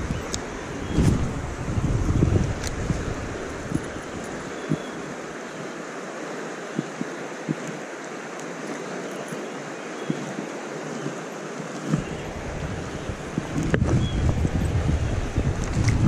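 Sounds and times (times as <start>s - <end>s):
fast-flowing river rushing: 0.0s - 16.0s.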